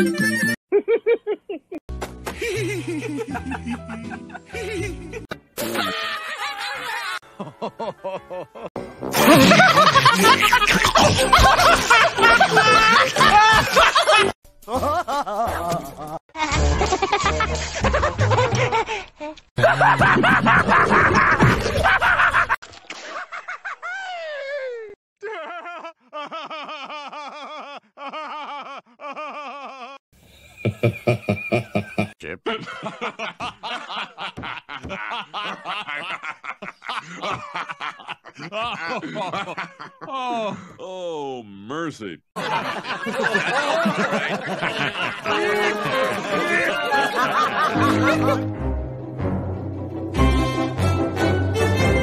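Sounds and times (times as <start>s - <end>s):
cartoon characters laughing: 0.0s - 1.8s, 2.4s - 22.6s, 23.2s - 30.0s, 30.6s - 40.6s, 42.4s - 48.5s.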